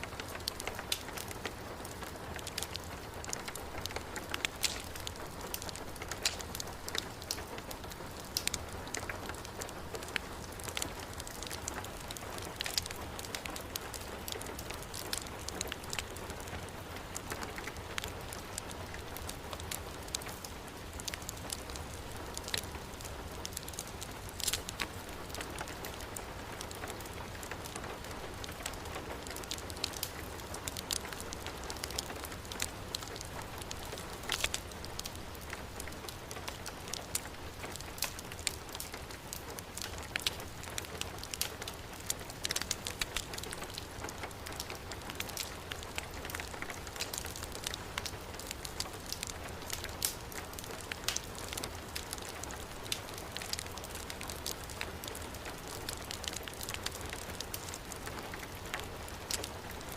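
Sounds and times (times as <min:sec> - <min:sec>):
fireplace crackling and popping: 0:00.0 - 0:59.9
heavy rain falling: 0:00.0 - 0:59.9.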